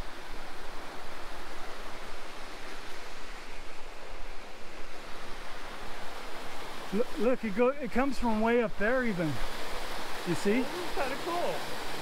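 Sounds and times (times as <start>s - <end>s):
water cascading over rocks: 0.0s - 12.0s.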